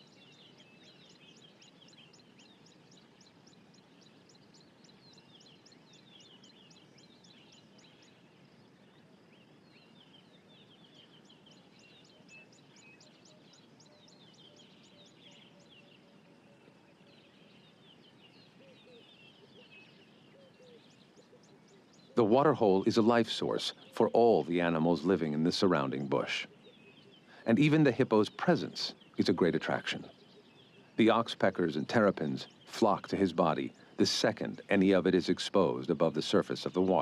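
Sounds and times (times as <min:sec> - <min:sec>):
birds chirping and twittering: 0:00.0 - 0:37.0
soft steady hiss: 0:00.0 - 0:37.0.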